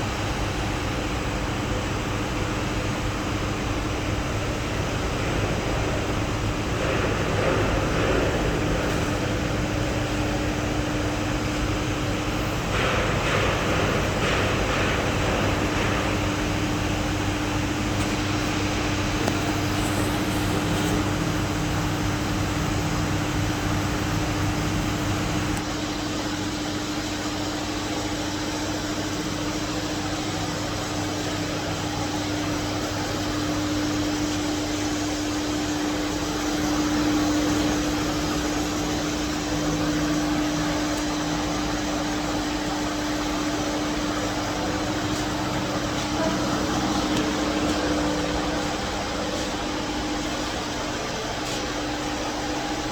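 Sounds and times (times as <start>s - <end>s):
steady machine hum: 0.0s - 52.9s.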